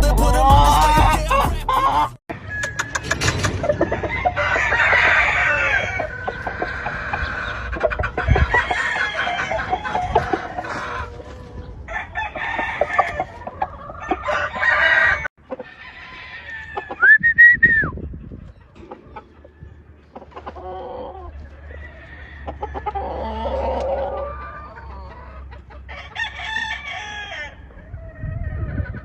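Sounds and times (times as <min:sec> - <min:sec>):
roosters crowing and clucking: 0:00.0 - 0:29.0.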